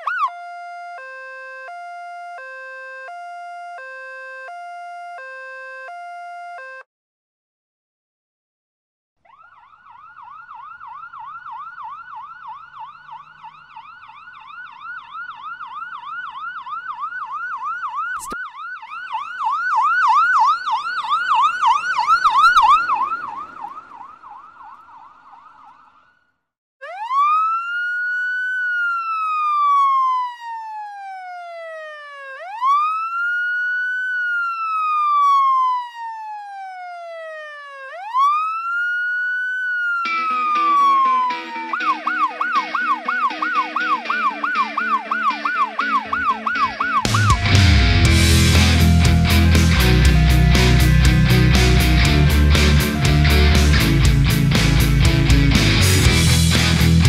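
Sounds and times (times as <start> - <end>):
ambulance siren: 0.0 - 6.9, 9.2 - 57.0.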